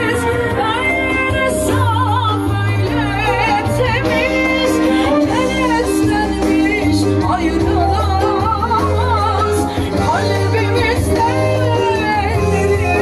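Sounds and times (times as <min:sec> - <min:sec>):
ornamented lead melody: 0:00.0 - 0:13.0.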